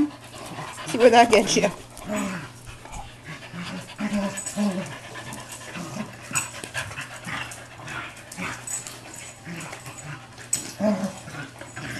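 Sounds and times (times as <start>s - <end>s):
dogs growling: 0.0s - 11.9s
dogs panting: 0.0s - 11.9s
dogs scuffling on floor: 0.3s - 11.9s.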